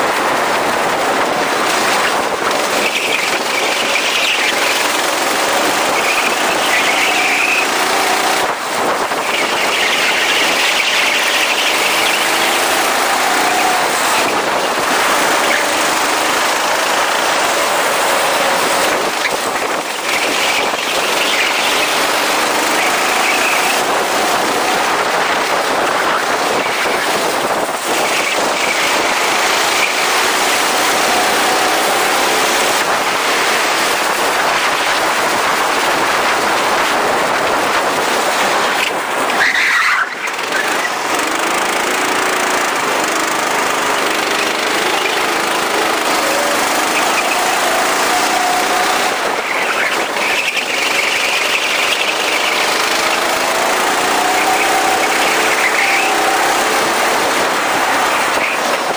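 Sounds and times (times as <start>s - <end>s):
go-kart engine revving: 0.0s - 58.9s
wind rushing on microphone: 0.0s - 58.9s.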